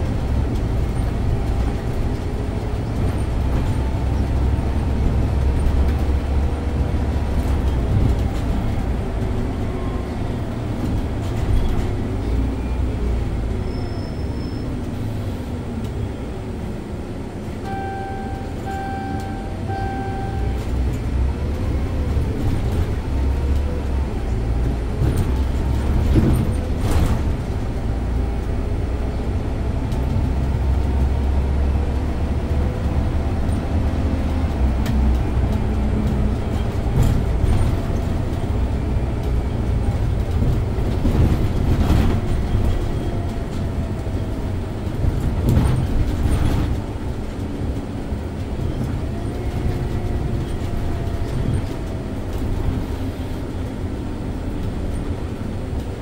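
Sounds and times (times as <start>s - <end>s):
bus body knocks and rattles: 0.0s - 12.4s, 21.5s - 28.8s, 29.5s - 56.0s
bus engine and road rumble: 0.0s - 56.0s.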